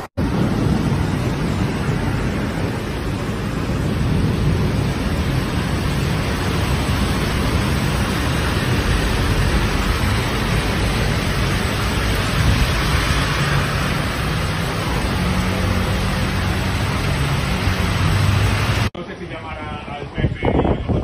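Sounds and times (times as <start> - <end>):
heavy rain: 0.0 - 21.0
low churning rumble: 0.0 - 21.0
storm wind: 0.0 - 21.0.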